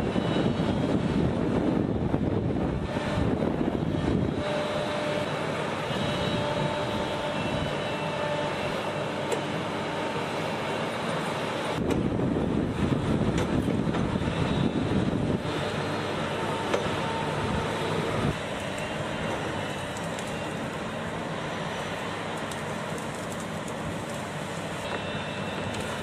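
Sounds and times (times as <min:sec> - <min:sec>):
heavy machinery running: 0:00.0 - 0:26.0.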